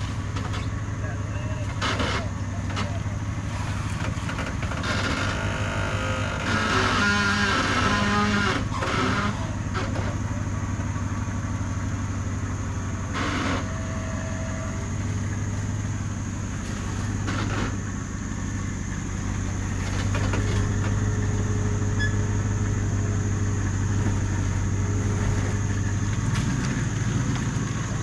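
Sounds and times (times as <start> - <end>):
vehicle engine running at low revs: 0.0 - 28.0.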